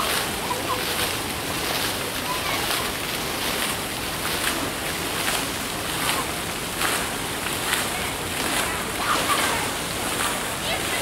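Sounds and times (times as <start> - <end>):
fountains splashing into pool: 0.0 - 11.0.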